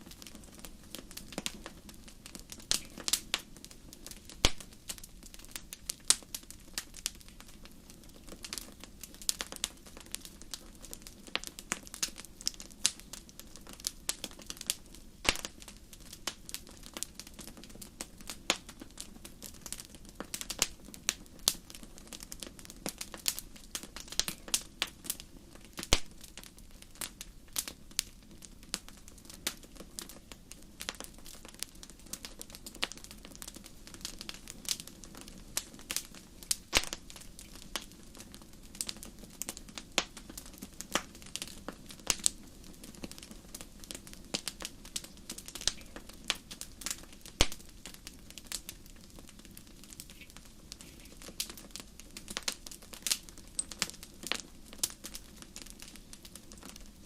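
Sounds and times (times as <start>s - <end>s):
low rush of flames: 0.0s - 57.0s
wood fire crackling and popping: 0.0s - 57.0s.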